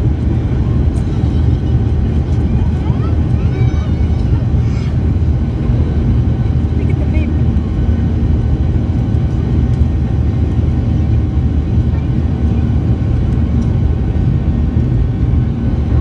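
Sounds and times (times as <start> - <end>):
jet engines at takeoff thrust: 0.0 - 16.0.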